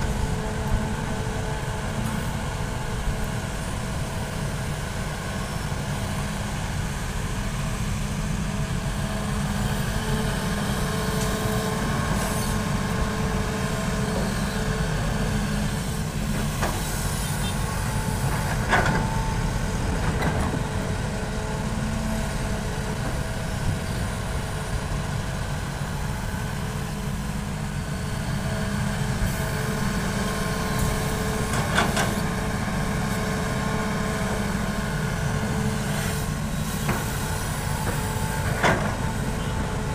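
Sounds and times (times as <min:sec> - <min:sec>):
engine whine: 0:00.0 - 0:39.9
excavator diesel engine running: 0:00.0 - 0:39.9.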